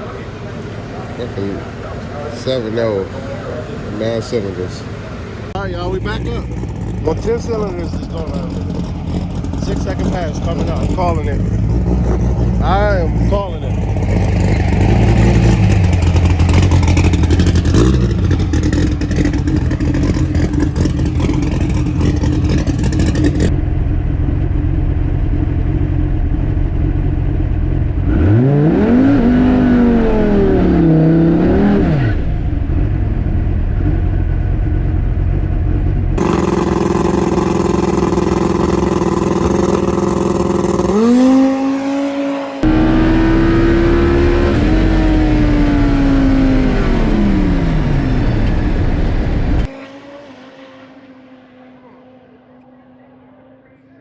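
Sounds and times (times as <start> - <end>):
drag car engine revving: 0.0 - 53.8.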